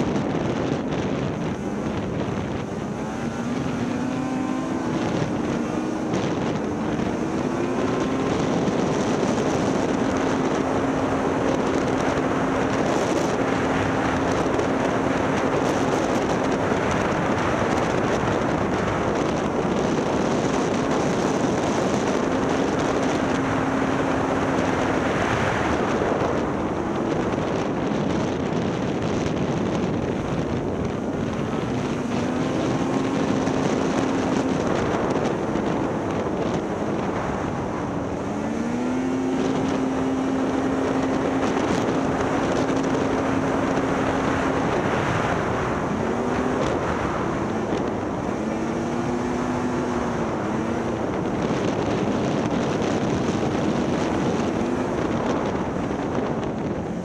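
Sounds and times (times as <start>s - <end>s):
snowmobile engine drone: 0.0s - 57.0s
wind rushing over microphone: 0.0s - 57.0s.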